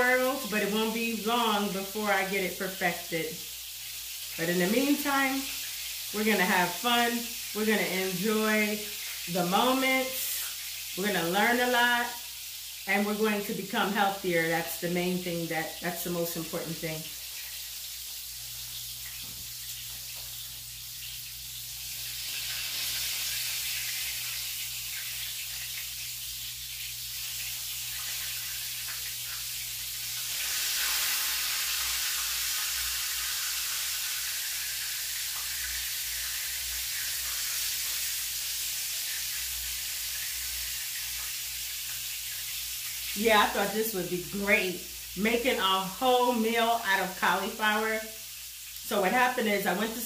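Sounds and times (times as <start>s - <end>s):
food sizzling in hot oil: 0.0s - 50.0s.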